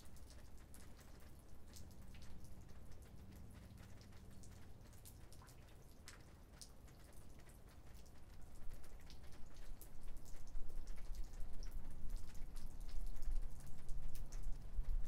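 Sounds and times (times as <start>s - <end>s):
raindrops ticking and dripping: 0.0s - 15.0s.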